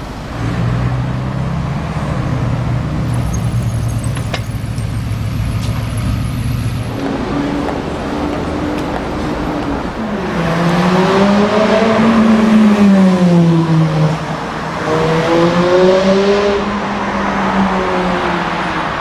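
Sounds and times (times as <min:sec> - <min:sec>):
road noise: 0:00.0 - 0:19.0
sports car engine accelerating: 0:00.2 - 0:19.0.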